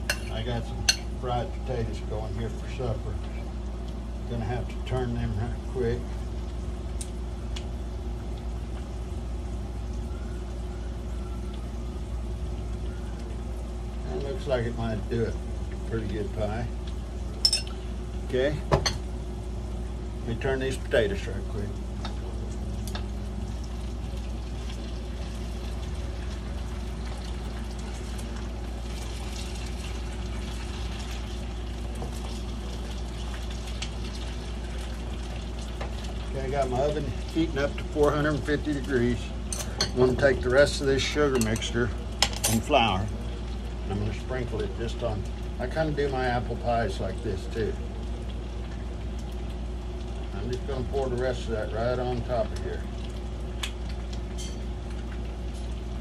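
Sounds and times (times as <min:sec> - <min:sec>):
low hum: 0:00.0 - 0:46.6.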